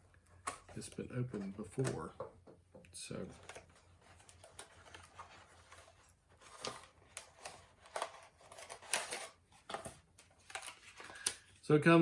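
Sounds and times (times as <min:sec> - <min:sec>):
cardboard and plastic rustling: 0:00.2 - 0:02.2, 0:03.1 - 0:11.6.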